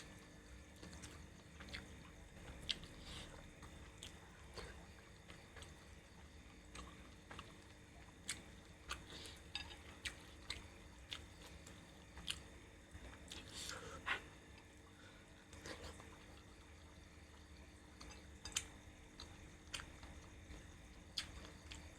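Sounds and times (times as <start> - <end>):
person chewing food: 0.8 - 14.7, 17.3 - 21.9.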